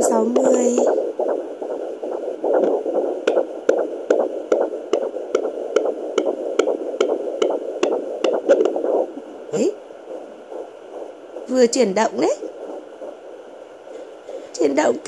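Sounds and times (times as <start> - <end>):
fetal heartbeat on doppler: 0.0 - 15.0
steady hiss: 0.0 - 15.0.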